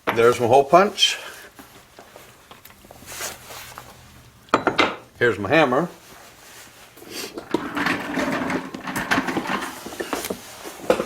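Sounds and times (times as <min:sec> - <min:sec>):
tools rubbing and scraping: 0:01.2 - 0:11.0.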